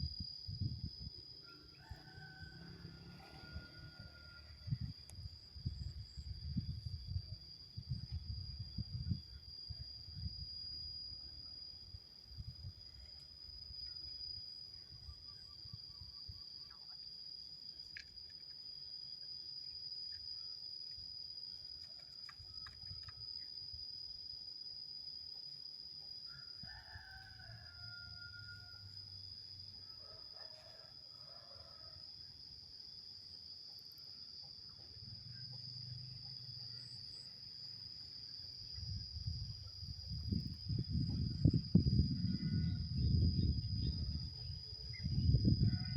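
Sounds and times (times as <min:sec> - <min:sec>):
high-pitched insect trill: 0:00.0 - 0:45.9.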